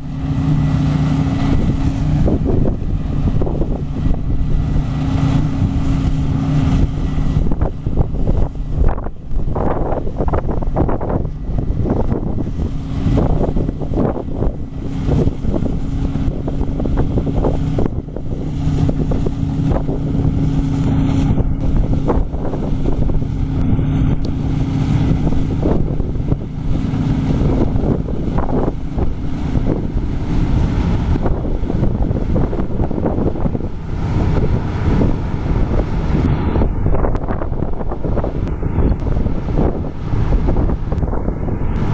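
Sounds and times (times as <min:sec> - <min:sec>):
machinery engines droning: 0:00.0 - 0:41.9
wind buffeting microphone: 0:00.0 - 0:41.9.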